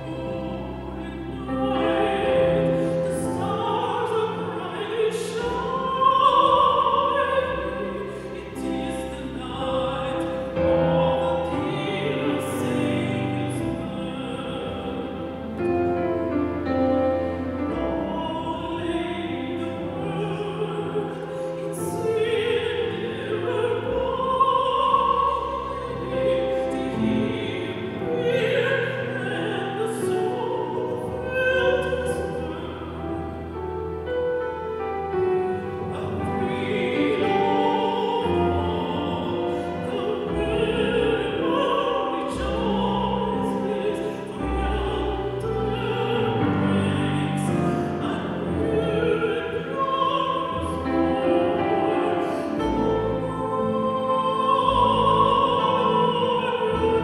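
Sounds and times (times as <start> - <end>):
classical singing voice: 0.0 - 57.0.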